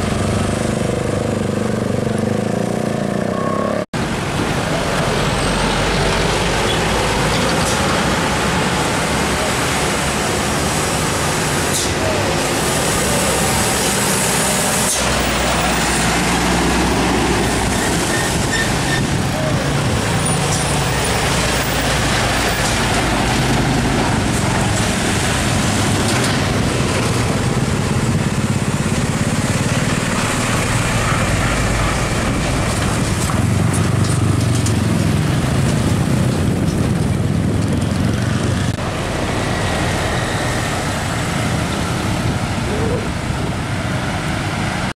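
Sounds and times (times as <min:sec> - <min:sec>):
trucks and traffic passing: 0:00.0 - 0:44.9.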